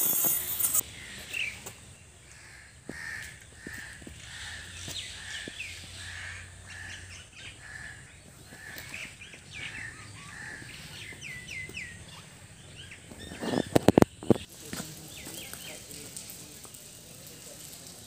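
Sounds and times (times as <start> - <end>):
birds chirping: 0.0 - 16.3.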